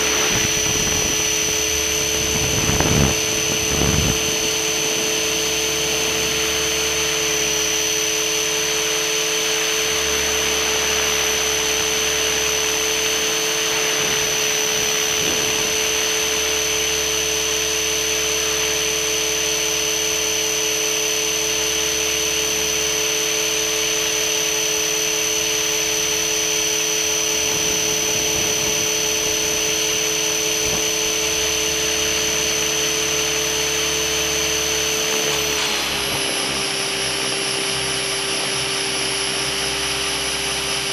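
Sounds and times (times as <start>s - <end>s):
model helicopter high whine: 0.0s - 40.9s
motor and rotor drone: 0.0s - 40.9s.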